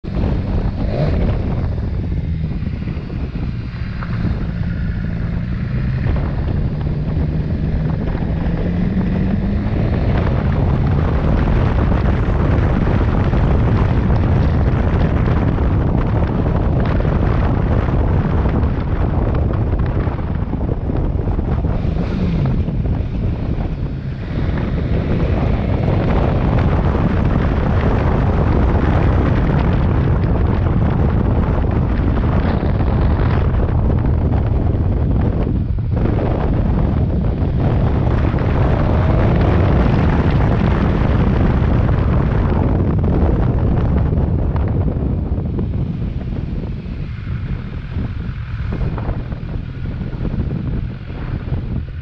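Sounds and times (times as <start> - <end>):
motorcycle engine speeding up: 0.0 - 52.0
wind noise on microphone: 0.0 - 52.0.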